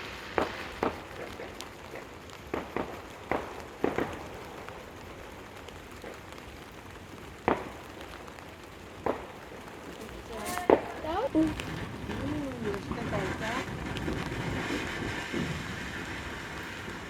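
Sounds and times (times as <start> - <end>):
fireworks banging: 0.0 - 17.0
steady hiss: 0.0 - 17.0.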